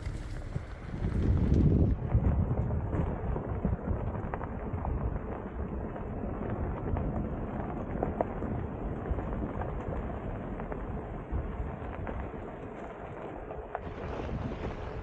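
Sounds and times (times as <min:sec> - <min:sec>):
tires rumbling on gravel: 0:00.0 - 0:15.0.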